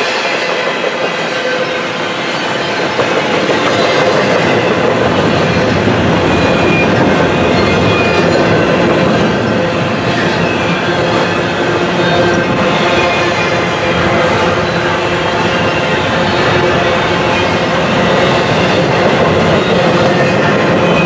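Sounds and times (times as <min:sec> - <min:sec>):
train wheels clattering on rail: 0:00.0 - 0:21.0.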